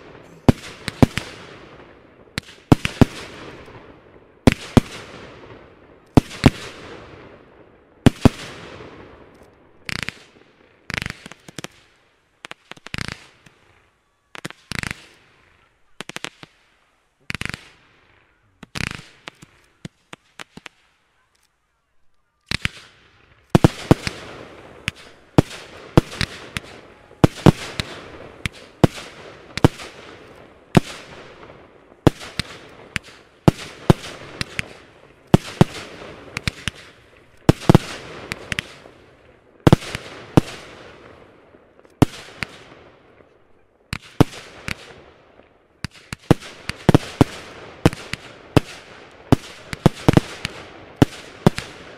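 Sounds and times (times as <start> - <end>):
fireworks bangs and pops: 0.0 - 21.6, 22.3 - 51.9
fireworks crackle: 0.0 - 51.9.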